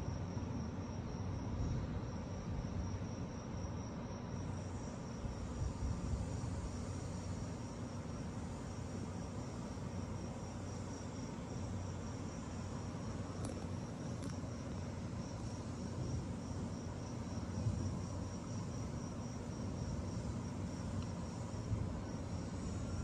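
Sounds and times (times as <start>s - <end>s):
continuous low rumble: 0.0s - 23.0s
crickets chirping: 0.0s - 23.0s.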